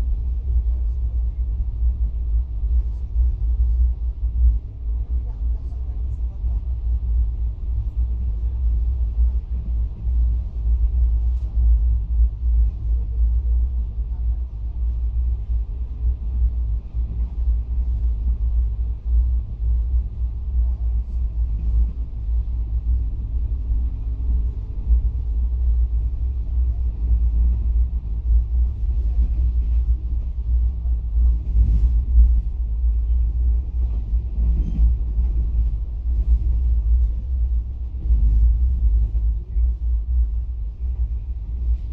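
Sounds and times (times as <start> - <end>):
train rumble inside coach: 0.0 - 41.9.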